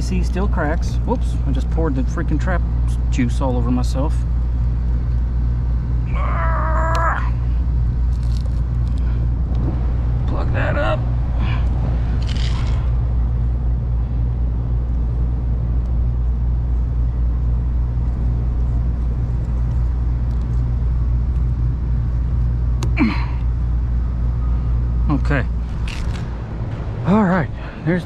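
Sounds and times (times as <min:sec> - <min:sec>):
air-conditioning unit humming: 0:00.0 - 0:28.0.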